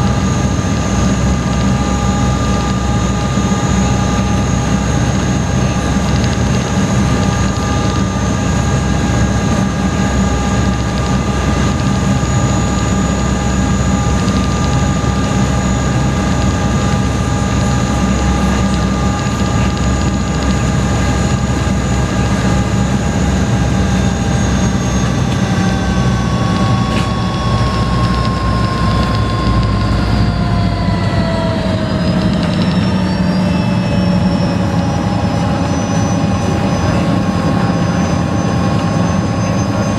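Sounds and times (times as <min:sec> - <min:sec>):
ferry engines droning and whining: 0:00.0 - 0:39.9.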